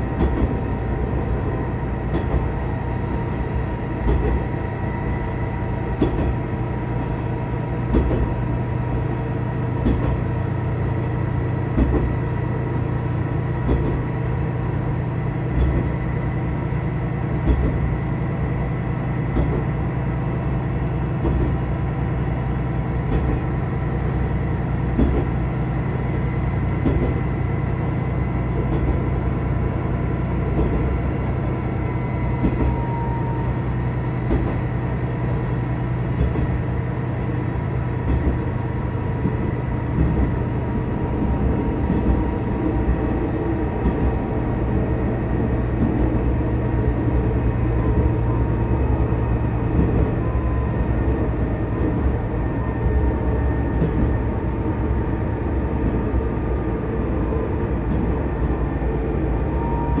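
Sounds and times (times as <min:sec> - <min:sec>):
train engine and wheels rumbling: 0:00.0 - 1:00.0.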